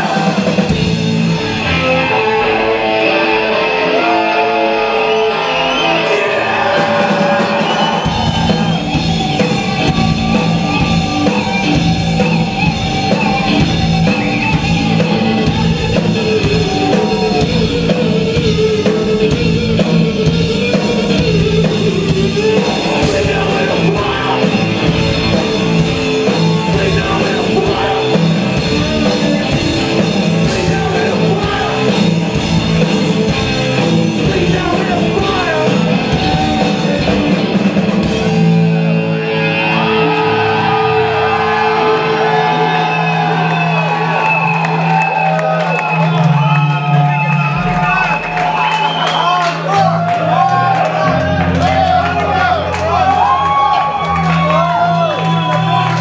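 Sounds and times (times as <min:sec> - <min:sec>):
drums: 0:00.0 - 0:56.0
live rock band playing: 0:00.0 - 0:56.0.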